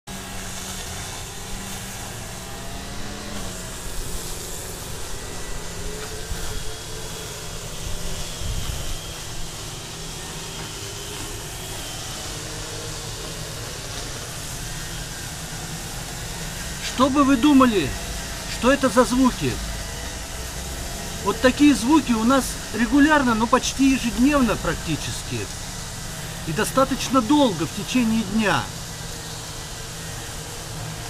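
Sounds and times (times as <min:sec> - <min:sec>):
brush cutters mowing grass: 0:00.1 - 0:31.0.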